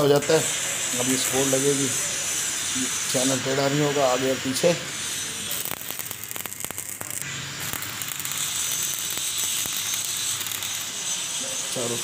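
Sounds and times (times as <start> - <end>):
arc welding crackling and sizzling: 0.0 - 12.0.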